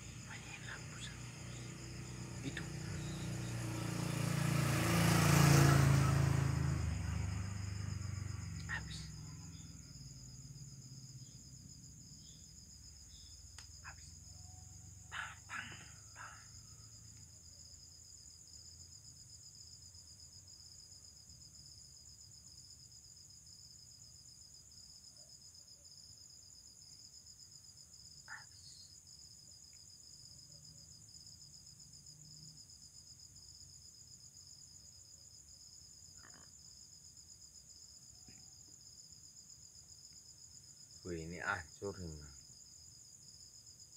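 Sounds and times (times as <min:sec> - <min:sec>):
insects chirping: 0:00.0 - 0:43.9.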